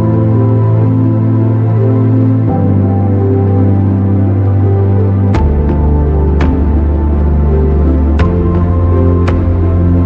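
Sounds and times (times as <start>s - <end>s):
sustained chords music: 0.0s - 10.0s.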